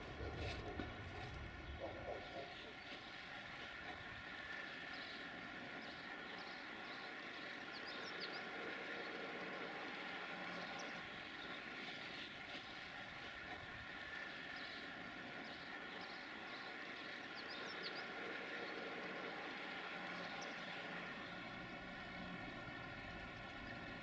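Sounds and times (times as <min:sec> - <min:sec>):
distant train rumble: 0:00.0 - 0:24.0
small birds chirping: 0:00.0 - 0:24.0.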